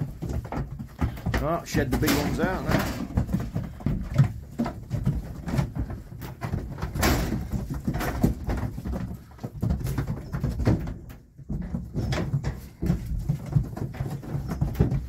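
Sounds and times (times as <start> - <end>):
hooves scuffling on floor: 0.0 - 15.0.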